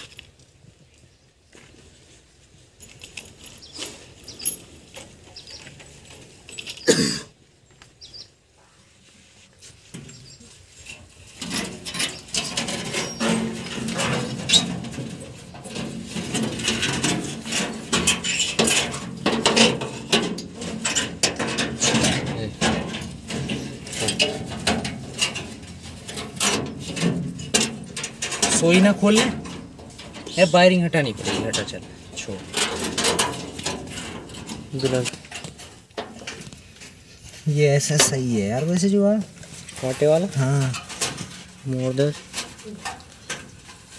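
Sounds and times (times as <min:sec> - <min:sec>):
metal mesh clicking and rattling: 0:02.8 - 0:07.2, 0:09.9 - 0:37.0, 0:37.9 - 0:43.9.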